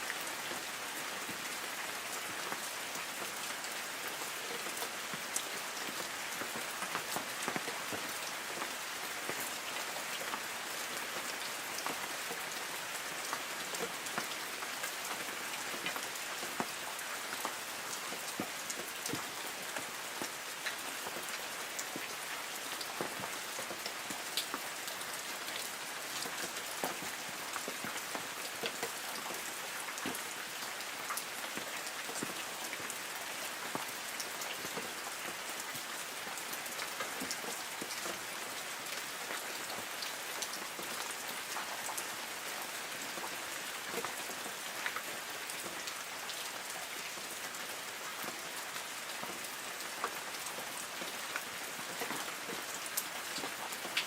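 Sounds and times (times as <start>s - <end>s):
light rain on trees: 0.0s - 54.0s.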